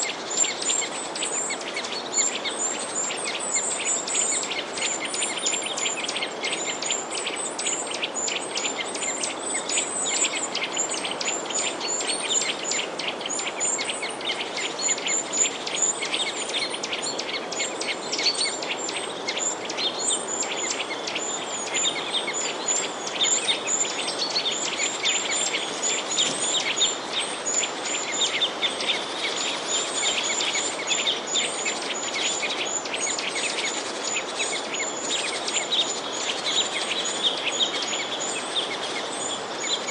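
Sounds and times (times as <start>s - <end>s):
small birds chirping chorus: 0.0s - 39.9s
steady background hiss: 0.0s - 39.9s.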